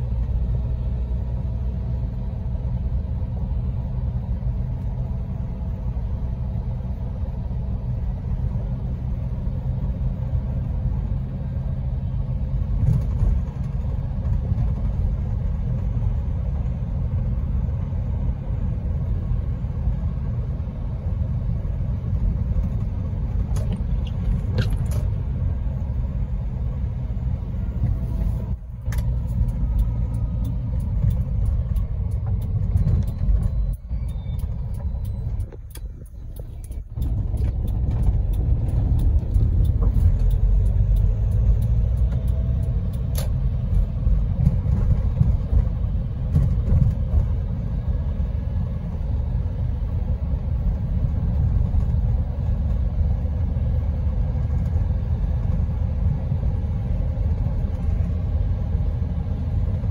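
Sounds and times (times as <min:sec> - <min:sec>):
car interior driving rumble: 0:00.0 - 0:59.9.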